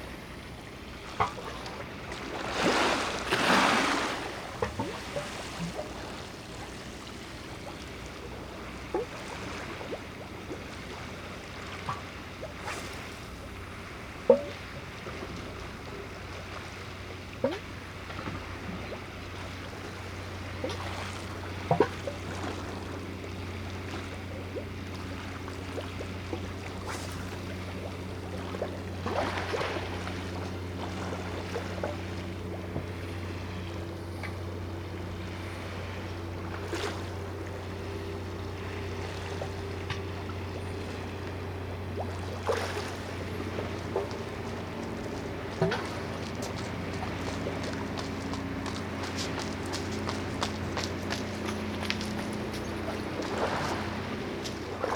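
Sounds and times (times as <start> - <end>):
ship engine drone: 0.0 - 54.9.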